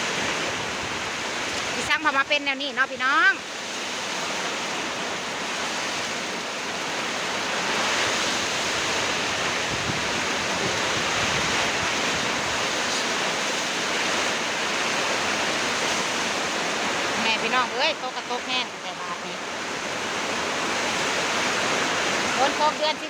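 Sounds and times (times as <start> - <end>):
heavy rain: 0.0 - 23.0
wind: 0.0 - 23.0.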